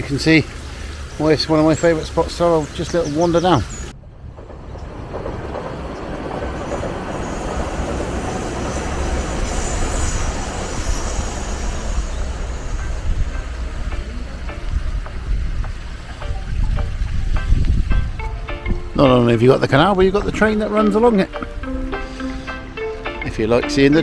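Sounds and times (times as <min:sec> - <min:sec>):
train running on track: 0:00.0 - 0:24.0.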